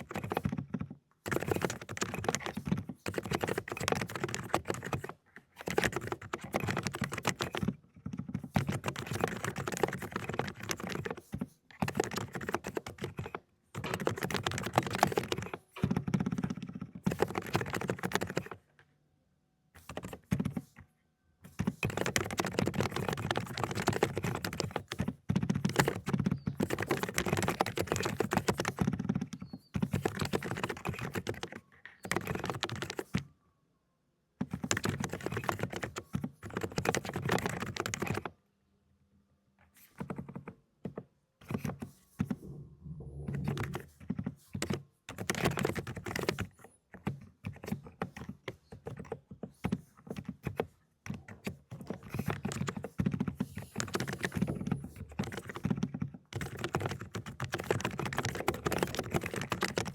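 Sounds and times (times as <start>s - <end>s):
fast typing on mechanical keyboard: 0.0s - 18.6s, 19.8s - 20.8s, 21.5s - 33.3s, 34.4s - 38.3s, 39.8s - 42.6s, 43.3s - 59.9s.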